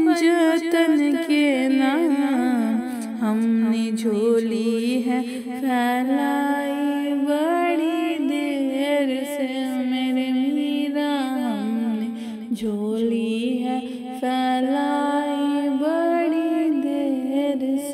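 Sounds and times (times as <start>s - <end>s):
woman singing wordless melody: 0.0s - 17.9s.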